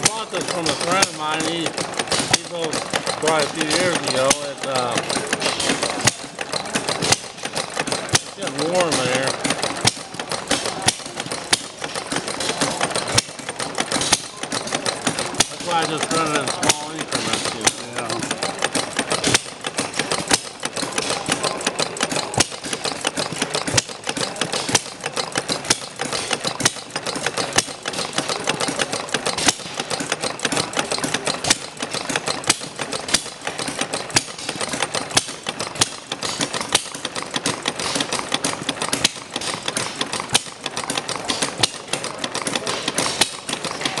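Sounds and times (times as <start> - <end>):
sharp engine click: 0.0 - 44.0
small engine mechanical clatter: 0.0 - 44.0.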